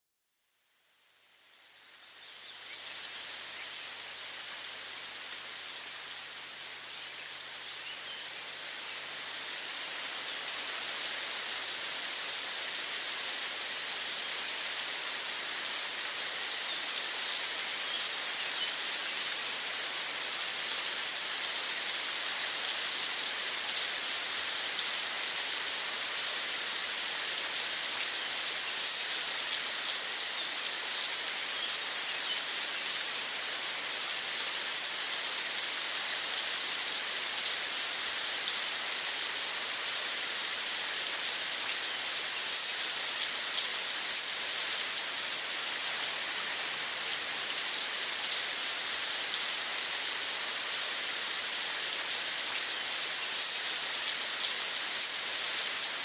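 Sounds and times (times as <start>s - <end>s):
steady rain pattering: 0.8s - 56.0s.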